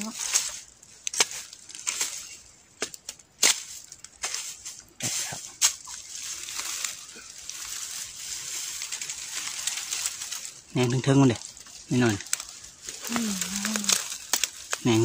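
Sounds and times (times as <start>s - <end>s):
bamboo leaves rustling: 0.0s - 15.0s.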